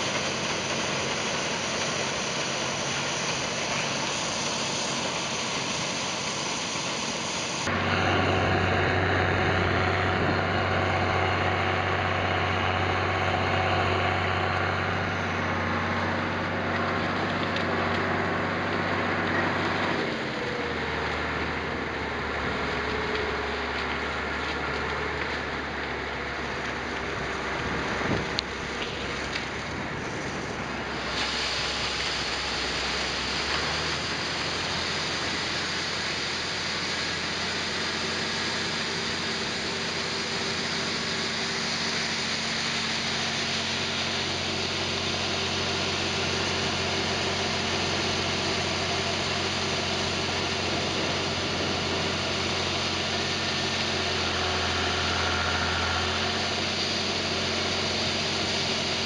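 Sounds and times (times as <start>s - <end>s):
farm machine engine running: 0.0s - 59.0s.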